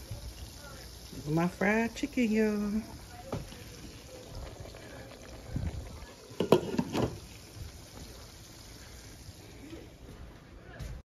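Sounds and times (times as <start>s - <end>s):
chicken sizzling in oil: 0.0s - 10.1s.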